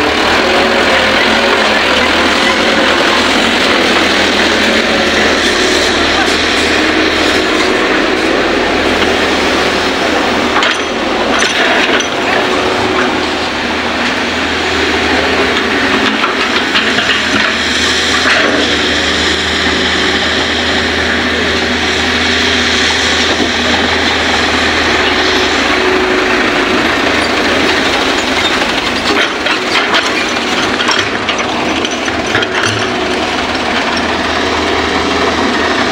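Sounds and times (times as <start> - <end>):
excavator diesel engine: 0.0 - 35.9.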